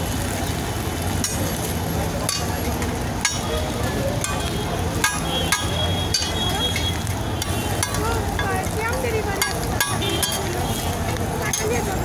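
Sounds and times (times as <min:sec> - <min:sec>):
egg sizzling on griddle: 0:00.0 - 0:12.0.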